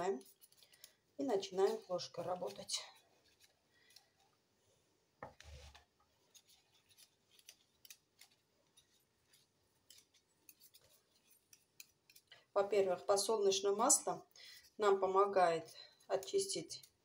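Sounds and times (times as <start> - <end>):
spoon scraping whisk and bowl: 0.0 - 4.0, 5.4 - 17.0.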